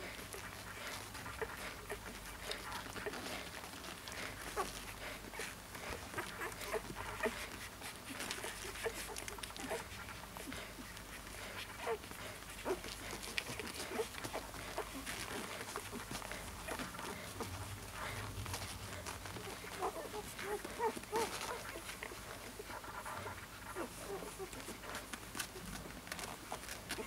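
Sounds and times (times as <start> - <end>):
rustling: 0.0 - 27.0
puppies squeaking and whimpering: 0.1 - 27.0.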